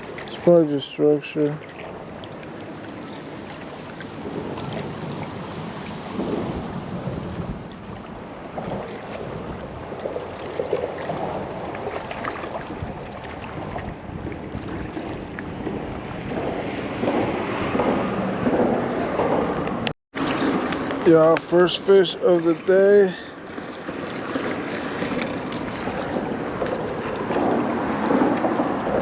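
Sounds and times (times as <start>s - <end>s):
river water: 0.0s - 29.0s
wind rumbling on microphone: 0.0s - 29.0s.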